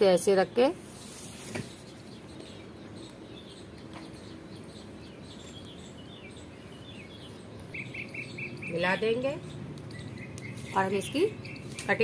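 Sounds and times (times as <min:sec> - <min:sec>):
small birds chirping: 0:00.0 - 0:12.0
steady background noise: 0:00.0 - 0:12.0.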